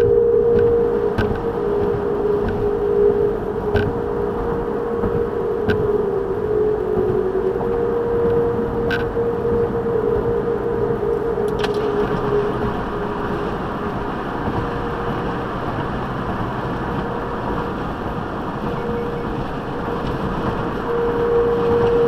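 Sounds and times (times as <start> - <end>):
bridge humming high note: 0.0 - 22.0
road and wind rush: 0.0 - 22.0.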